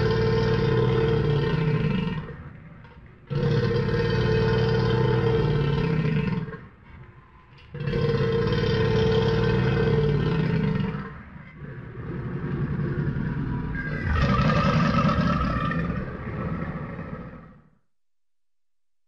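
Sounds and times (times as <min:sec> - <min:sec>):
crocodile growling roars: 0:00.0 - 0:02.6, 0:03.3 - 0:06.7, 0:07.7 - 0:17.7.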